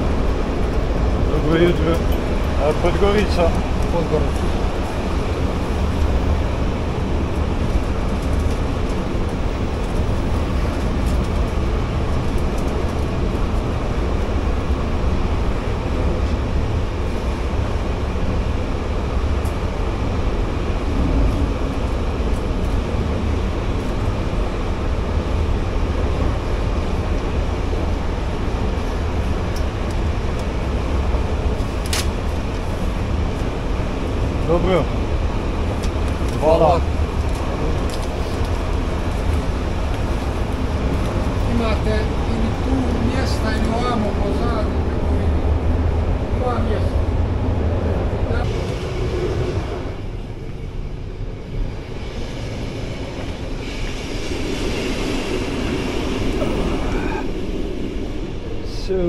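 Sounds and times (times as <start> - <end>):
passenger train rumbling: 0.0 - 59.0.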